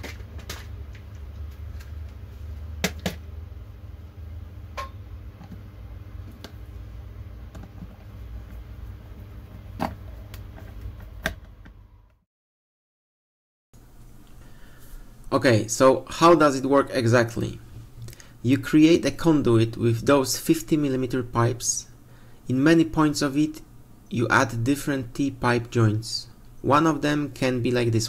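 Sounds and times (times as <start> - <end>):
low steady hum: 0.0 - 12.2, 13.8 - 28.0.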